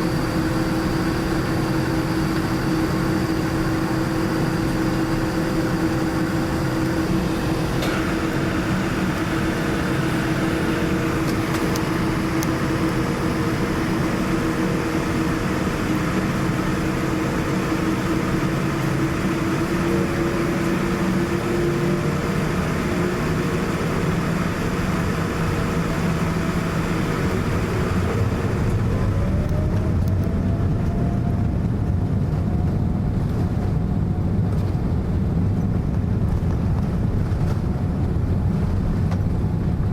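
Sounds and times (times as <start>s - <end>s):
jet engines and airflow in cabin: 0.0s - 39.9s.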